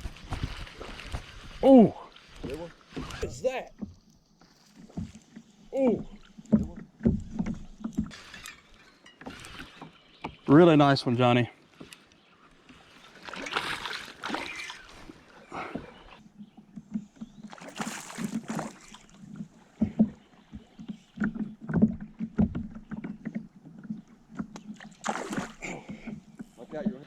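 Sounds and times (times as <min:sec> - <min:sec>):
water splashing around a kayak: 0:00.0 - 0:27.0.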